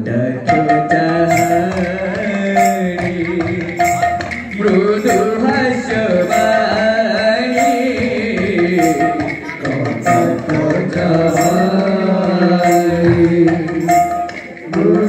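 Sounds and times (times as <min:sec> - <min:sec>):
man singing into a microphone: 0:00.0 - 0:15.0
drum: 0:00.4 - 0:15.0.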